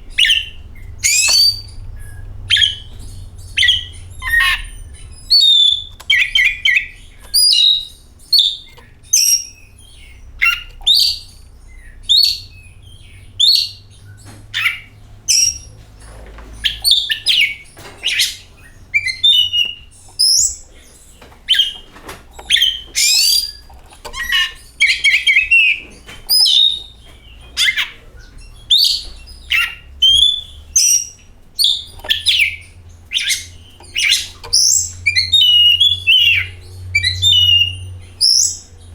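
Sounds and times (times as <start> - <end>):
bird singing whistled phrases: 0.0 - 15.8, 16.6 - 38.8.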